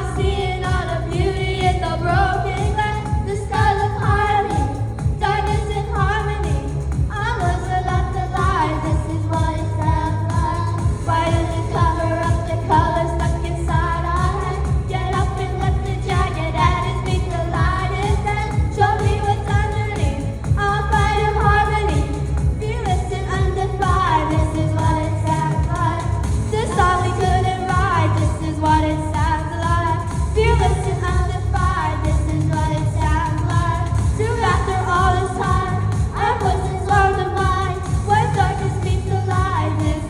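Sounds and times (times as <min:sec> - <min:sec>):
heavy bass beat: 0:00.0 - 0:40.0
pop song with sung vocals: 0:00.0 - 0:40.0.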